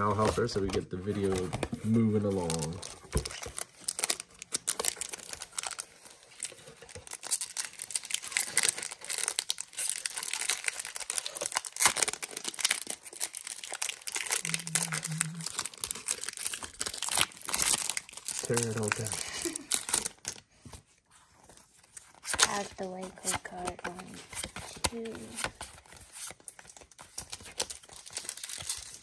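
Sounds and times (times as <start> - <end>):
foil wrapper crinkling and tearing: 1.2 - 20.5, 21.9 - 29.0.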